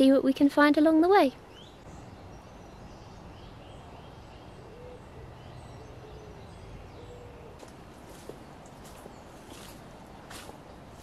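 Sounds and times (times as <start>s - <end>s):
faint birds calling: 1.3s - 11.0s.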